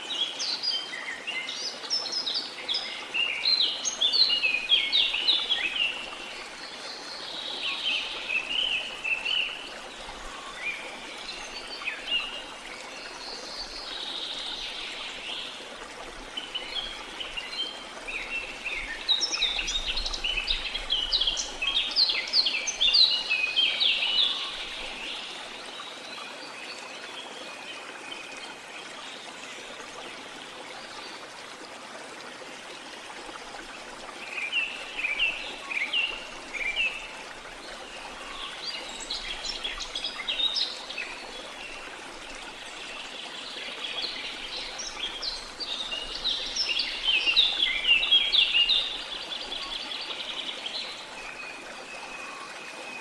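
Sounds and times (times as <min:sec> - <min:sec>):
flowing water rushing: 0:00.0 - 0:53.0
songbirds chirping: 0:00.0 - 0:53.0.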